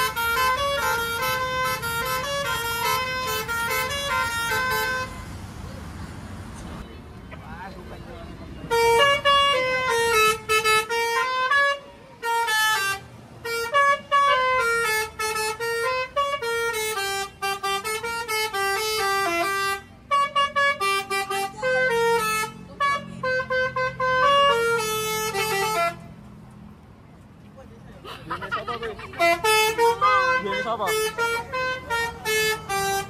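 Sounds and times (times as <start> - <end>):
bus horn playing a tune: 0.0 - 5.4, 8.6 - 26.2, 28.8 - 33.0.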